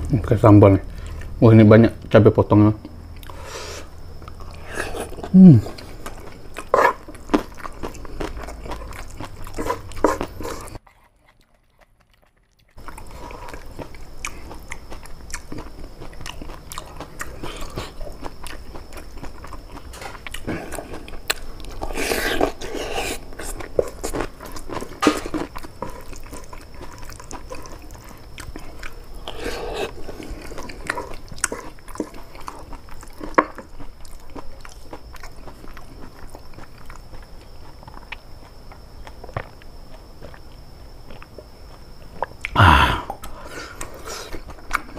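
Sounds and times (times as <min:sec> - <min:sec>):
close chewing and mouth sounds: 0:00.4 - 0:02.2, 0:02.8 - 0:44.9.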